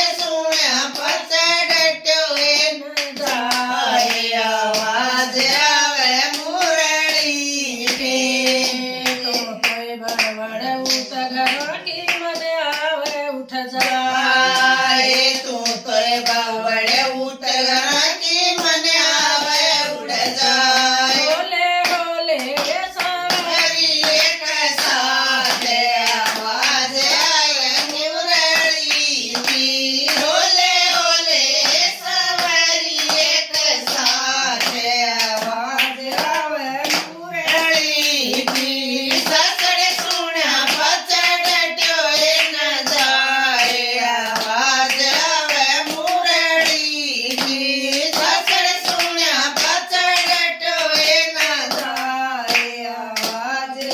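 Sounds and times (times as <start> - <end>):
hand-clapping: 0.0 - 53.9
person singing devotional song: 0.0 - 53.9.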